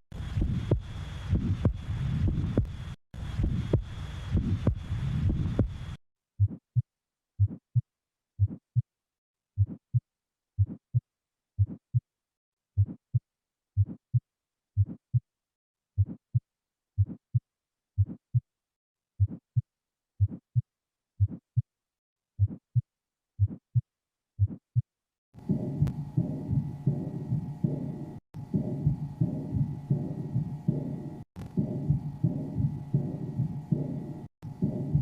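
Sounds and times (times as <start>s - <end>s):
heartbeat through stethoscope: 0.1s - 7.8s, 8.4s - 8.9s, 9.6s - 12.1s, 12.8s - 15.3s, 16.0s - 18.5s, 19.2s - 21.7s, 22.4s - 35.0s.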